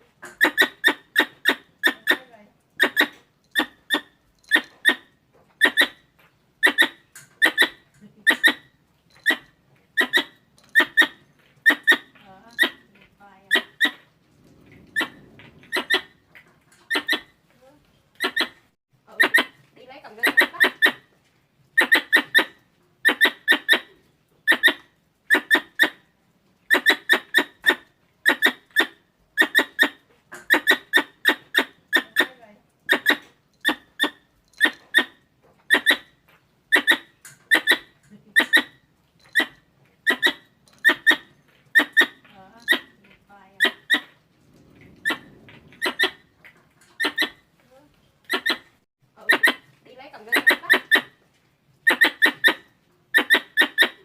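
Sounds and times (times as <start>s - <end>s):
squeaky squirrel chirps: 0.2s - 14.0s, 14.9s - 16.2s, 16.9s - 17.4s, 18.2s - 21.1s, 21.8s - 26.0s, 26.7s - 43.0s, 43.6s - 44.2s, 45.0s - 46.3s, 47.0s - 47.4s, 48.3s - 51.2s, 51.8s - 54.0s.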